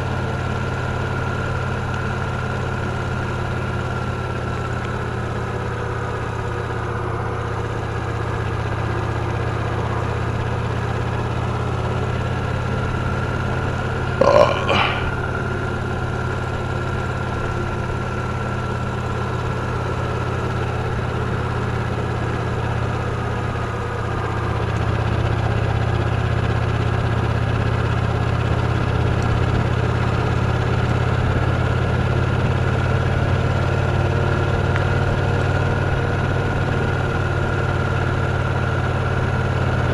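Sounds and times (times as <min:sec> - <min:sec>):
v-twin motorcycle engine running: 0:00.0 - 0:14.2, 0:15.2 - 0:39.9.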